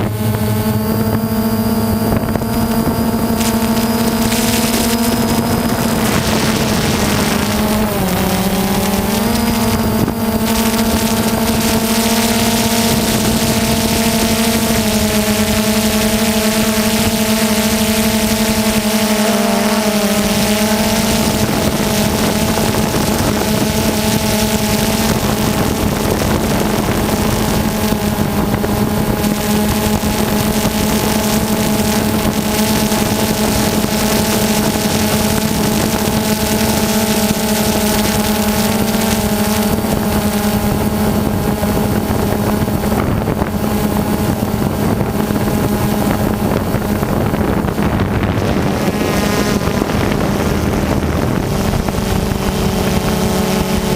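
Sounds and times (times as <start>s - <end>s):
small model engine buzzing: 0.0s - 53.9s
wind on microphone: 0.0s - 53.9s.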